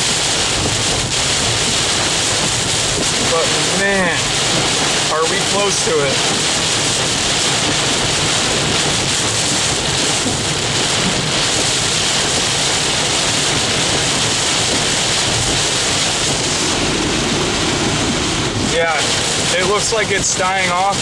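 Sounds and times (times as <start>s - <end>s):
heavy rain on a vehicle: 0.0s - 21.0s
wind: 0.0s - 21.0s.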